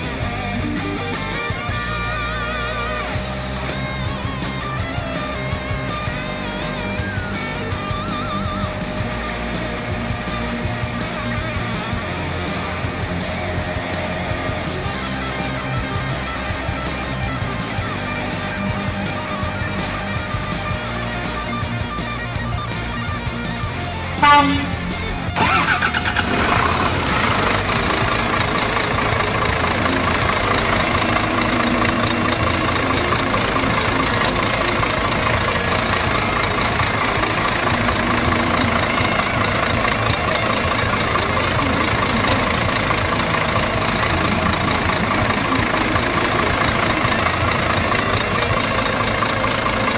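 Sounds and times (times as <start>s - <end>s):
heavy machine engine idling: 0.0s - 49.9s.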